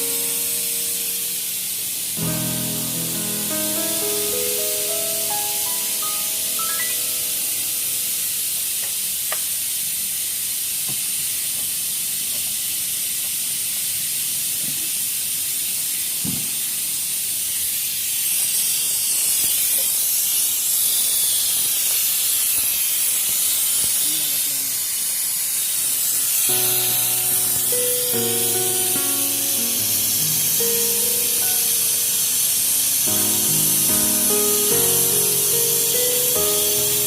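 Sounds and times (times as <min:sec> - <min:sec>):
spraying hiss: 0:00.0 - 0:37.0.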